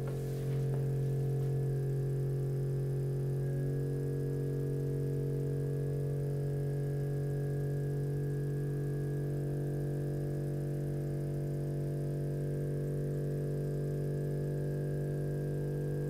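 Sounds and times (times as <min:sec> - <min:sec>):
wave driver buzzing hum: 0:00.0 - 0:16.0.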